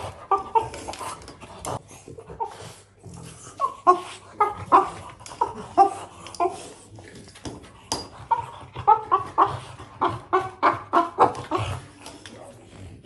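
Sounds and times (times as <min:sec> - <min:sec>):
puppy grunting and yelping: 0:00.0 - 0:12.2.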